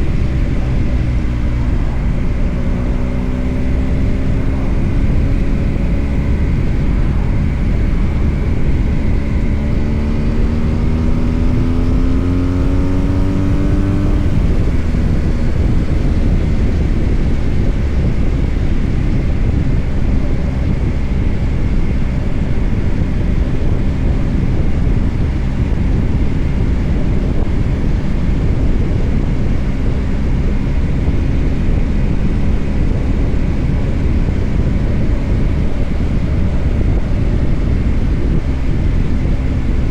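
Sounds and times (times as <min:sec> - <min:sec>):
motorcycle engine accelerating: 0:00.0 - 0:39.9
wind and road rush: 0:00.0 - 0:39.9.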